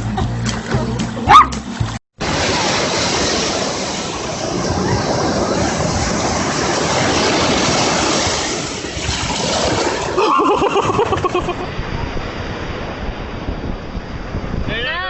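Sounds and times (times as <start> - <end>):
sea surf rushing: 1.3 - 15.0.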